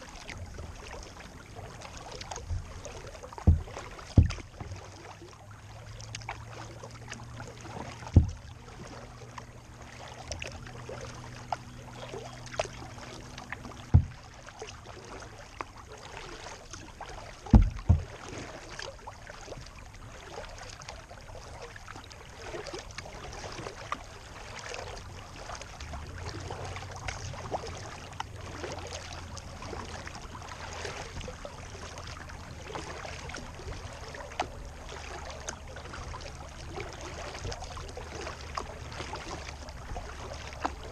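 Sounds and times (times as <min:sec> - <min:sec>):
water lapping against kayak: 0:00.0 - 0:40.9.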